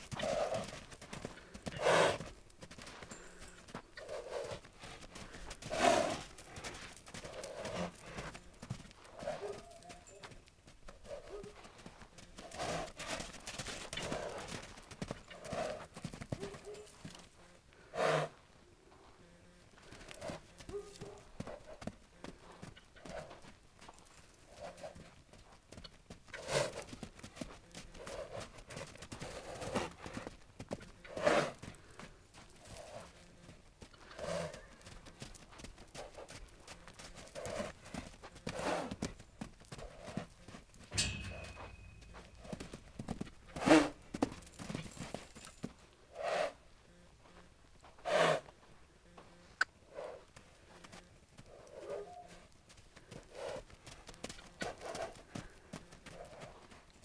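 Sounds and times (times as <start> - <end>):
hoofbeats on sand: 0.0 - 57.0.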